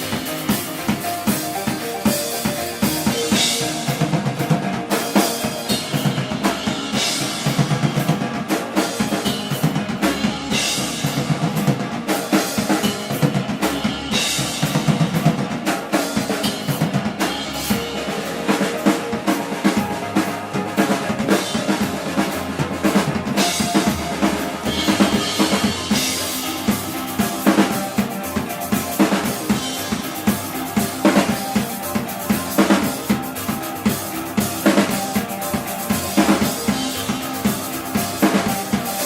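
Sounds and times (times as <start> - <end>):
live band playing loud music: 0.0 - 39.0.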